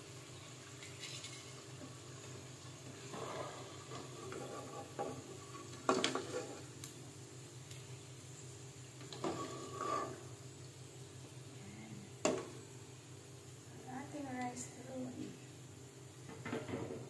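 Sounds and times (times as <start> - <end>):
light sizzle of oil: 0.0 - 17.0.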